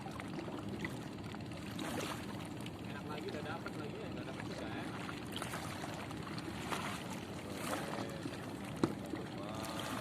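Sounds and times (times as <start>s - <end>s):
water around a boat: 0.0s - 10.0s
wind: 0.0s - 10.0s.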